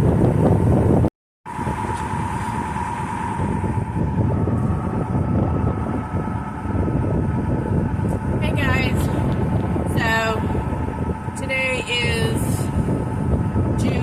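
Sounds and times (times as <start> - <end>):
boat motor rumbling: 0.0 - 14.0
faint whine: 0.0 - 14.0.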